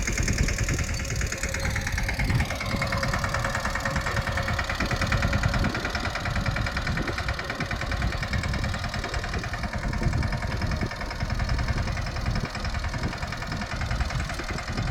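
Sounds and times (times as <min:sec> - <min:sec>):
diesel engine chugging: 0:00.0 - 0:14.9.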